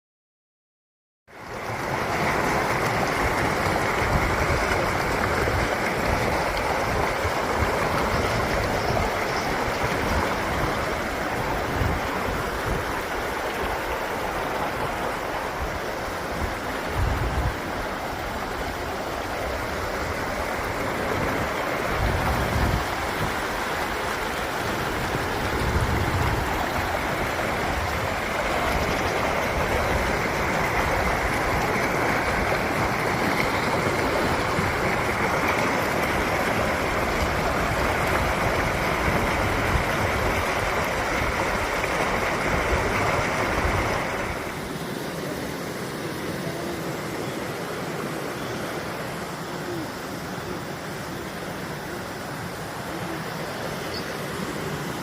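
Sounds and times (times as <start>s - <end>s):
stream rushing over rocks: 1.3s - 55.0s.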